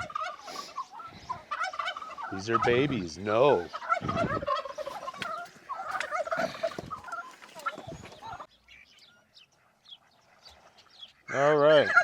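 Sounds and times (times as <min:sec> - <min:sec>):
hens clucking: 0:00.0 - 0:08.6, 0:09.2 - 0:12.0
turkeys gobbling: 0:00.0 - 0:08.8, 0:11.0 - 0:12.0
faint scattered peeps: 0:00.0 - 0:11.3.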